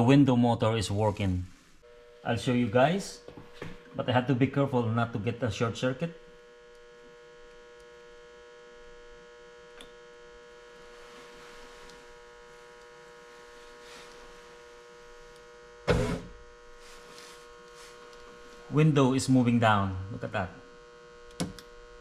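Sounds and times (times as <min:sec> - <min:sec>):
electric hum: 0:00.0 - 0:22.0.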